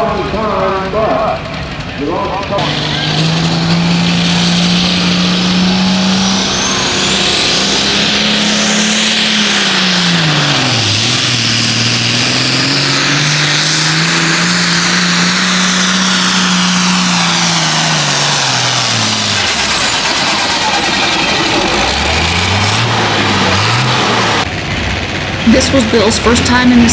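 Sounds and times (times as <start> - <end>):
tractor engine revving hard: 0.0 - 26.9.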